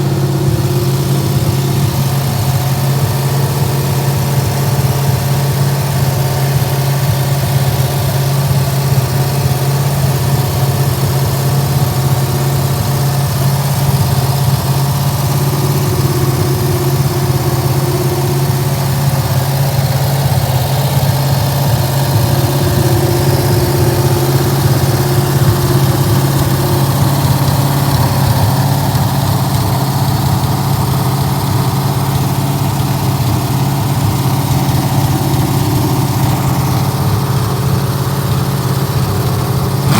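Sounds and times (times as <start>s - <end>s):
car engine fast idle: 0.0s - 39.9s.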